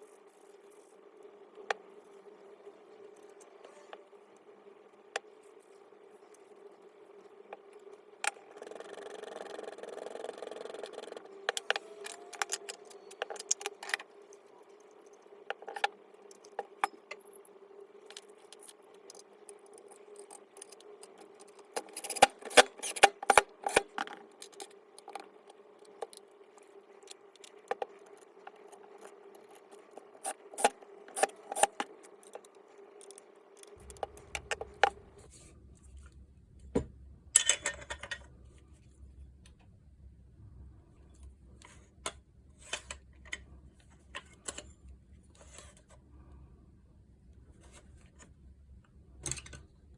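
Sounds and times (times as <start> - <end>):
faint steady hum: 0.0 - 49.9.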